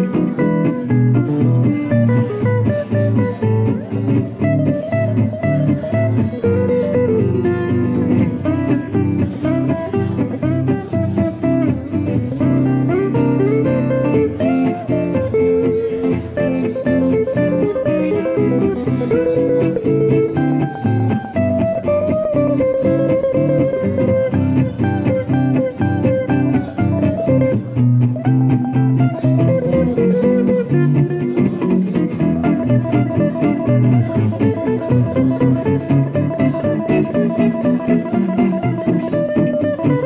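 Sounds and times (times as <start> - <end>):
guitar melody line: 0.0 - 40.0
guitar strumming chords: 0.0 - 40.0.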